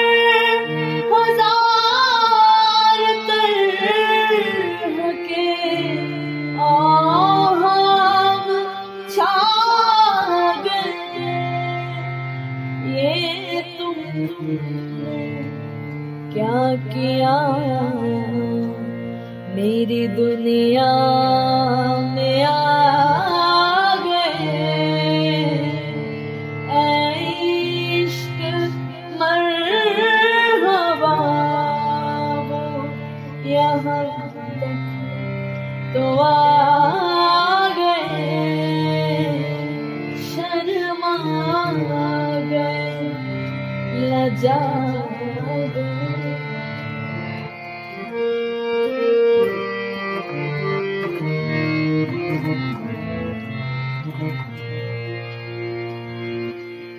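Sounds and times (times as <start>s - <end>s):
ornamented vocal melody: 0.0s - 56.9s.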